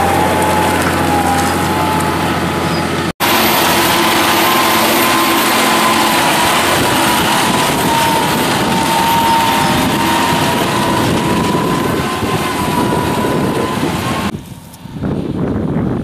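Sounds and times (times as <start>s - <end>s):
tractor diesel engine under load: 0.0s - 15.5s
steady high whine: 1.1s - 15.4s.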